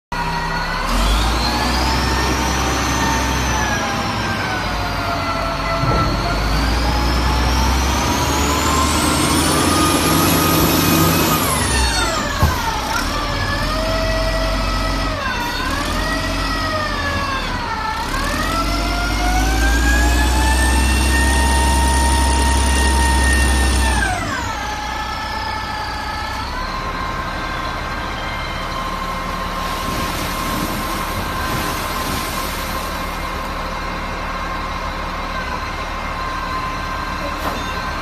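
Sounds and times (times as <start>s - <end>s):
wheel loader engine revving: 0.2s - 38.0s.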